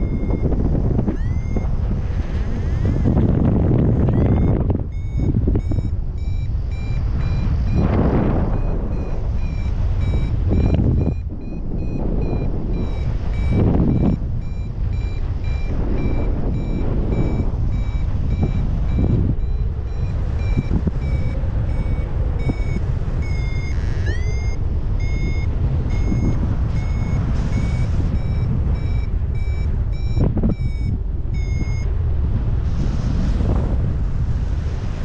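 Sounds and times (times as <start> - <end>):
variometer short high beeps: 0.0 - 31.9
wind rumble on microphone: 0.0 - 35.0.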